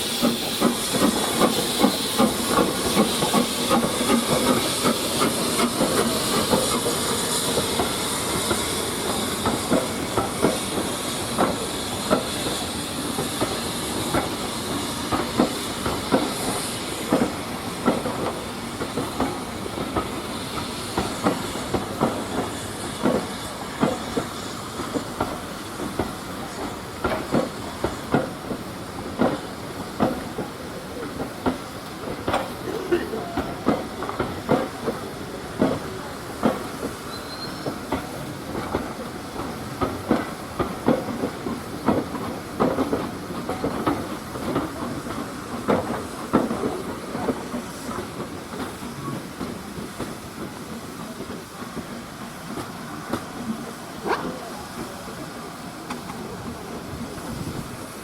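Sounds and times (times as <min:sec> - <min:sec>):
hissing steam: 0:00.0 - 0:58.0
train wheels clicking over rail joints: 0:00.0 - 0:58.0.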